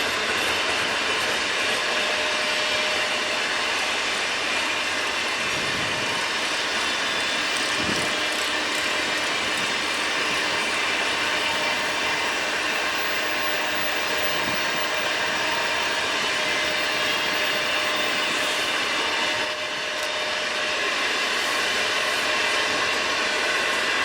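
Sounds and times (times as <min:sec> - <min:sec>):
train rail and wheel noise: 0:00.0 - 0:24.0.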